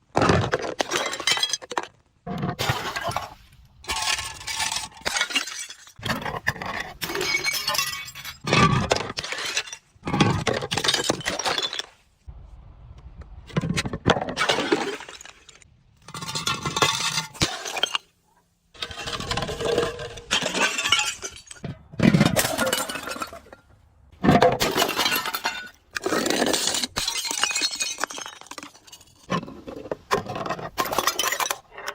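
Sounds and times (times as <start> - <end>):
glass bottles crushed and shattering: 0.1 - 12.0, 14.2 - 18.1, 18.8 - 31.6.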